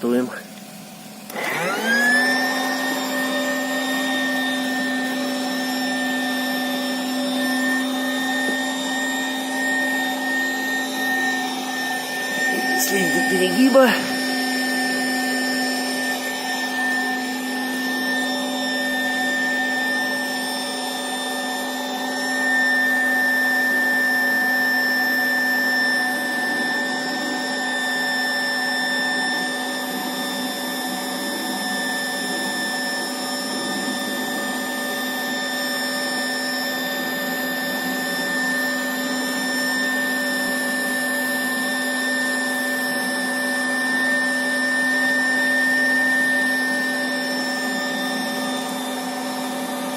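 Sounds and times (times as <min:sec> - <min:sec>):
electric air pump humming and whining: 0:00.0 - 0:49.9.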